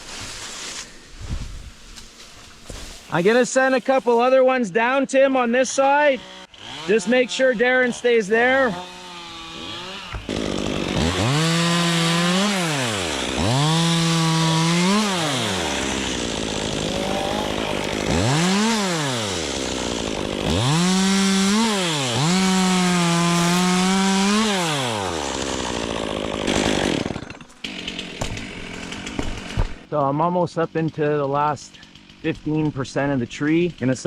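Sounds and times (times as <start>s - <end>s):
chainsaw revving and idling: 6.0s - 29.9s, 30.6s - 34.0s.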